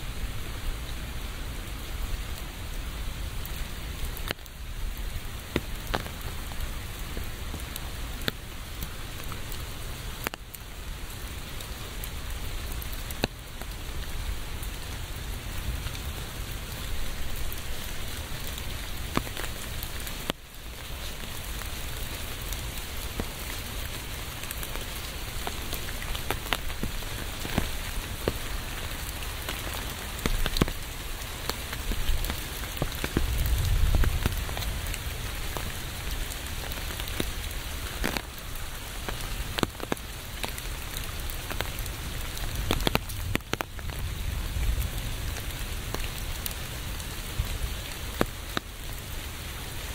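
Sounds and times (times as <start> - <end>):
rain on a hard surface: 0.0 - 49.9.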